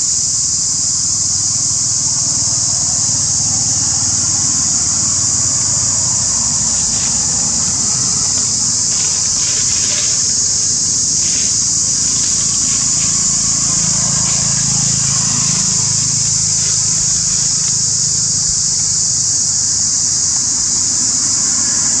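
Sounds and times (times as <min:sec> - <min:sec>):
high-pitched outdoor hiss: 0:00.0 - 0:22.0
road traffic hum: 0:00.0 - 0:22.0.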